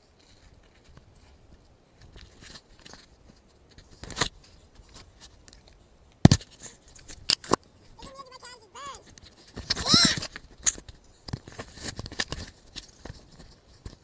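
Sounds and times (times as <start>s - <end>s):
dry grass brushing against camera: 0.0s - 8.2s, 8.8s - 14.0s.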